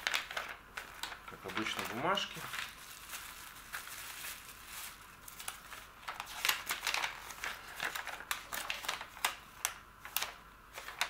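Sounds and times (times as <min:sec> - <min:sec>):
paper sheets rustling: 0:00.0 - 0:11.0
plastic bag crinkling: 0:00.0 - 0:11.0.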